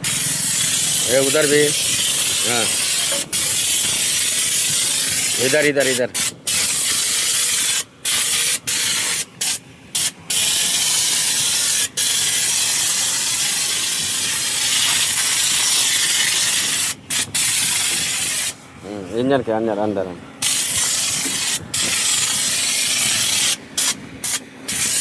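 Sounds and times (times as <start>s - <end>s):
oil spray hissing: 0.0s - 18.7s, 20.4s - 25.0s.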